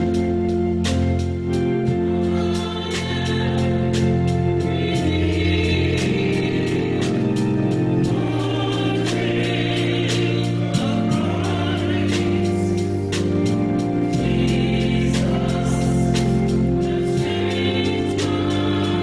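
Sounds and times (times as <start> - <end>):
choir singing gospel: 0.0 - 19.0
steady beat: 0.0 - 19.0.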